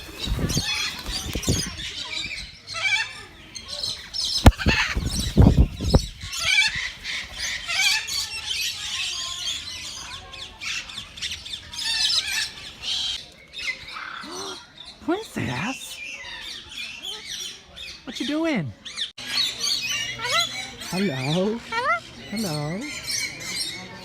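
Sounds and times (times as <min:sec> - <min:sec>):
parrots squawking and chattering: 0:00.0 - 0:24.0.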